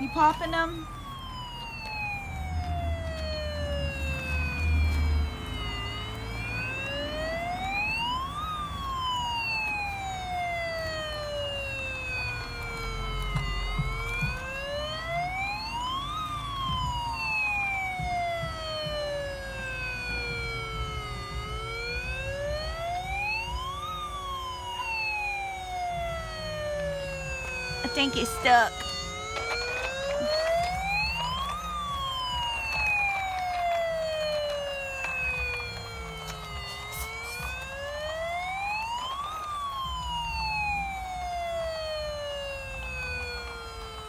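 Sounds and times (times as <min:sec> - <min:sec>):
toy electronic siren wailing: 0:00.0 - 0:44.0.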